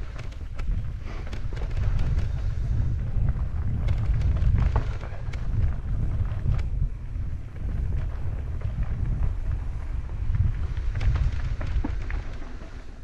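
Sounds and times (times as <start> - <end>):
bike clicks and knocks: 0.0 - 13.0
wind rumble on microphone: 0.0 - 13.0.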